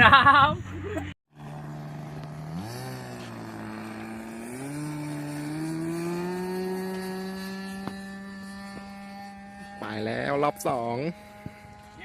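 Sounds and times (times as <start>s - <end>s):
model plane engine at high throttle: 1.3s - 12.0s.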